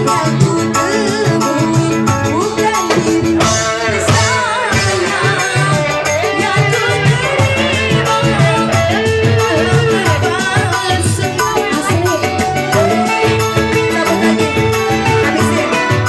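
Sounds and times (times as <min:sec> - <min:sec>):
electric keyboard melody: 0:00.0 - 0:16.0
hand drum beat: 0:00.0 - 0:16.0.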